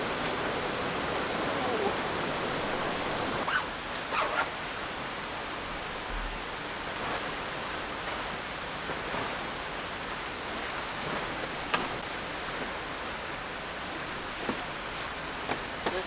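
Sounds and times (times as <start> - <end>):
rushing mountain stream: 0.0 - 16.0.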